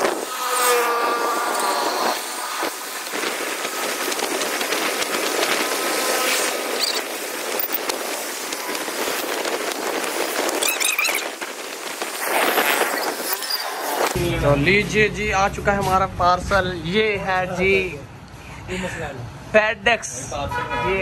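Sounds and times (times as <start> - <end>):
street traffic: 0.0 - 12.3, 13.2 - 21.0.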